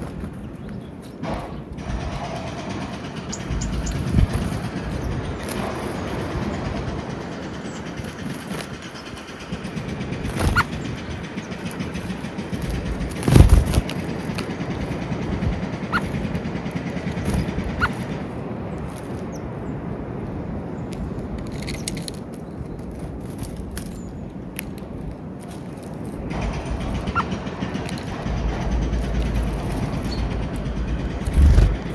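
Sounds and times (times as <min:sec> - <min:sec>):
outdoor background rumble: 0:00.0 - 0:31.9.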